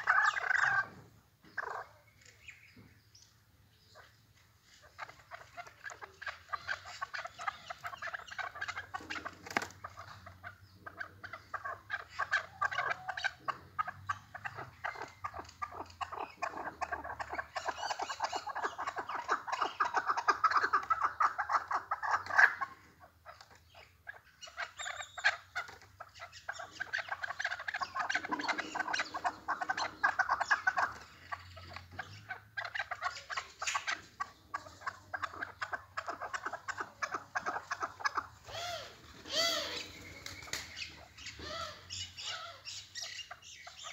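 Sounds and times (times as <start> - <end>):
partridges clucking calls: 0.0 - 43.9.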